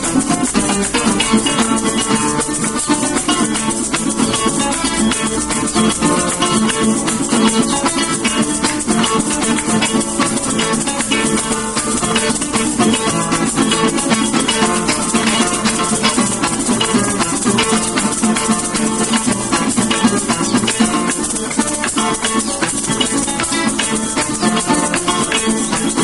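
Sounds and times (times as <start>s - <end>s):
maracas shaking: 0.0s - 26.0s
plucked string instruments: 0.0s - 26.0s.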